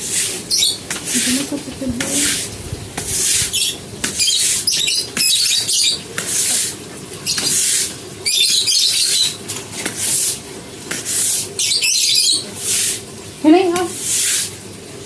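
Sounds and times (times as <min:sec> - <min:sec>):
brush scrubbing a surface: 0:00.0 - 0:08.0, 0:09.7 - 0:14.6.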